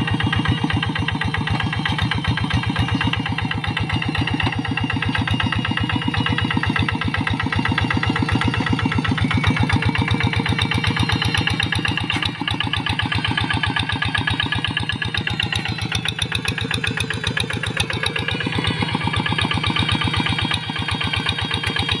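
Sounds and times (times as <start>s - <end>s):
diesel hand tractor running: 0.0s - 22.0s.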